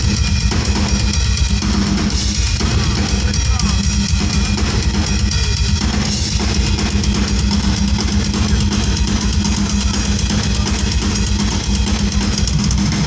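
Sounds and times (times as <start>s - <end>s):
heavy metal drum solo: 0.0s - 13.0s.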